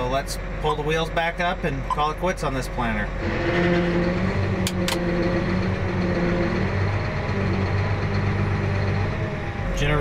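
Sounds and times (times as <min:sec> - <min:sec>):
tractor engine running generator: 0:00.0 - 0:10.0.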